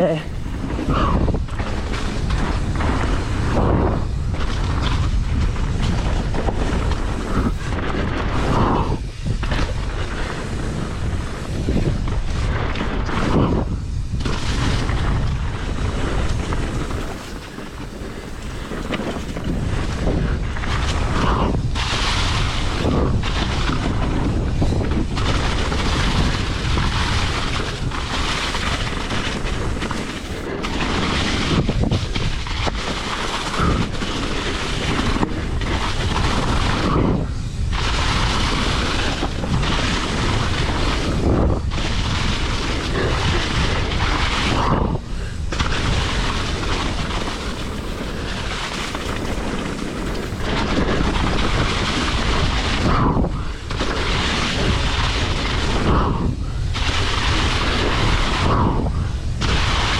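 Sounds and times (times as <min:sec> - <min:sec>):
knobby tyres rolling on dirt: 0:00.0 - 0:59.9
wind buffeting microphone: 0:00.0 - 0:59.9.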